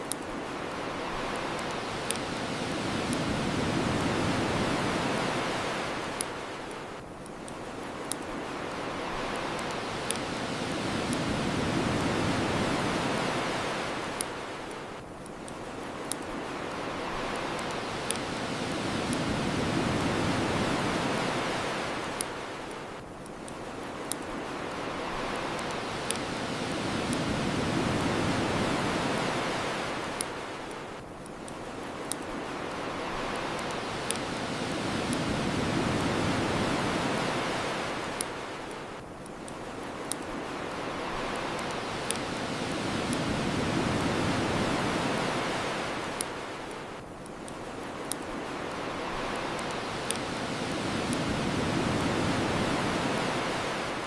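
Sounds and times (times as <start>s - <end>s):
bonfire crackling pops: 0.0s - 53.6s
ocean waves washing onto shore: 0.0s - 54.0s.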